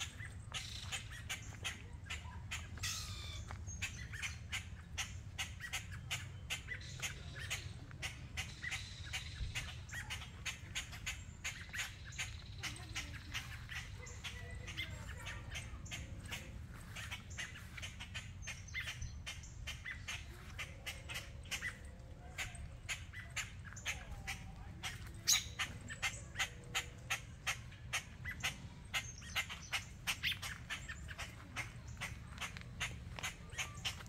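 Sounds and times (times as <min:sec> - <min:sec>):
birds squawking sharply: 0:00.0 - 0:34.0.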